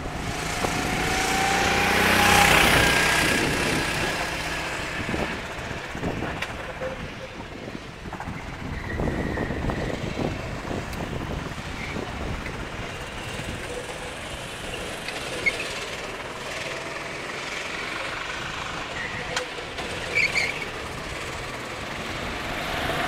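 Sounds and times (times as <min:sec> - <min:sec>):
kart engine passing by: 0:00.0 - 0:07.8, 0:08.4 - 0:23.0
distant kart engines: 0:00.0 - 0:23.0.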